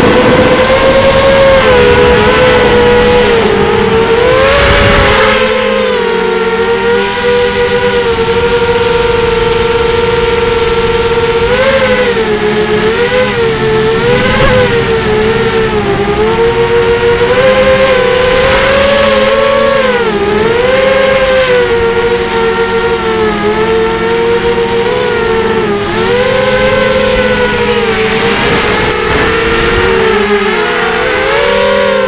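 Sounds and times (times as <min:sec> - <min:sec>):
drone motors whining: 0:00.0 - 0:32.0.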